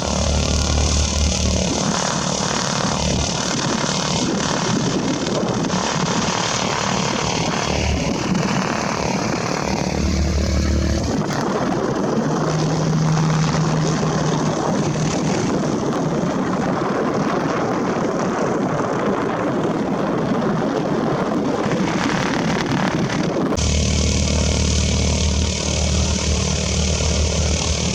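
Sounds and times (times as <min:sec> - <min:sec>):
low hum: 0:00.0 - 0:18.2, 0:23.6 - 0:27.9
propeller aircraft engine: 0:00.0 - 0:27.9.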